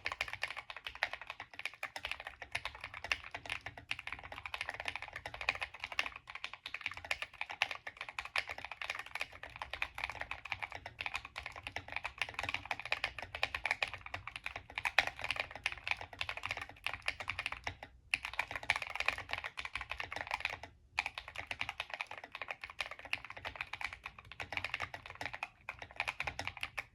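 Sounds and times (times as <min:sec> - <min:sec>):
fast mechanical keyboard typing: 0:00.0 - 0:26.9.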